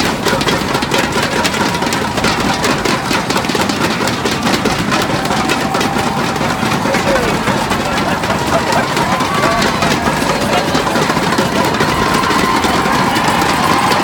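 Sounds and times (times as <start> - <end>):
loud crowd noise: 0.0 - 14.0
thunder sticks clattering: 0.0 - 14.0.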